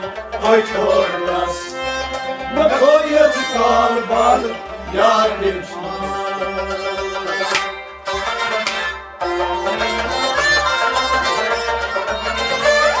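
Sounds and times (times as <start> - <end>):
bowed fiddle: 0.0 - 13.0
harmonium chords: 0.0 - 13.0
plucked rabab: 0.0 - 13.0.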